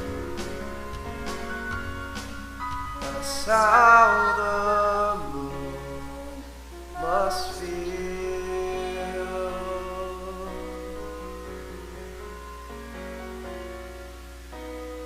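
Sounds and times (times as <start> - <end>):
sustained musical accompaniment: 0.0 - 15.0.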